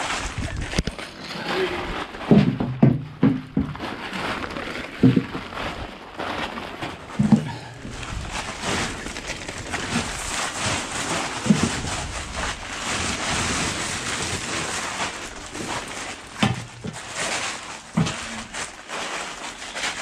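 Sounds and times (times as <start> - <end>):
dull thumps: 2.2 - 18.6.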